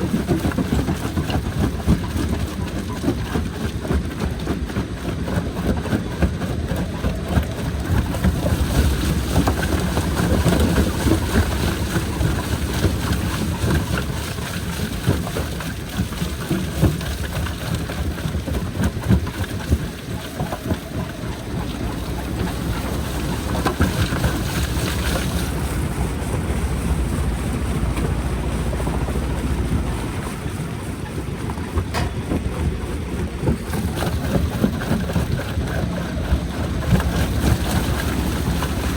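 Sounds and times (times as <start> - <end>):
jaw crusher rumbling: 0.0 - 38.9.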